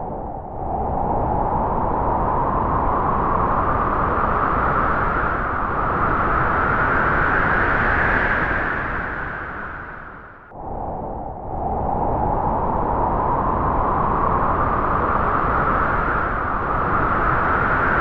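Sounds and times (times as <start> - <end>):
wind gusting with whistling: 0.0 - 18.0.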